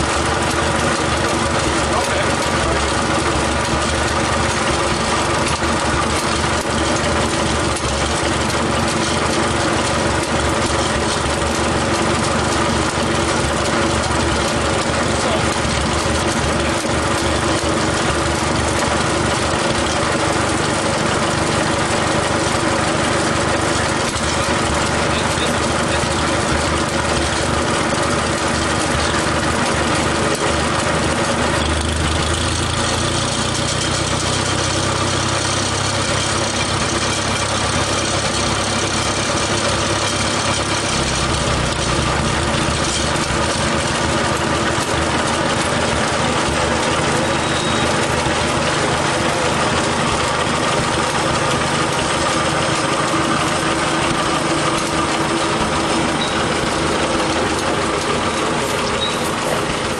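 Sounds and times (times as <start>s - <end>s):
locomotive engine rumbling: 0.0s - 59.9s.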